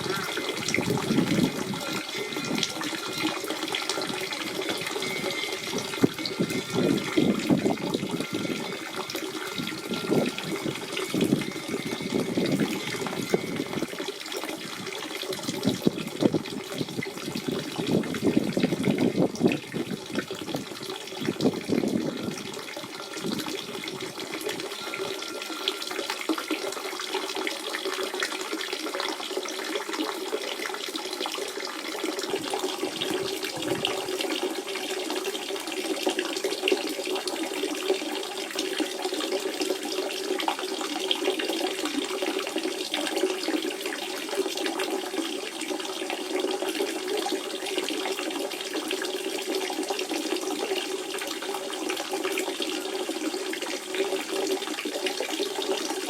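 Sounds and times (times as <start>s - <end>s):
spring water running: 0.0s - 56.0s.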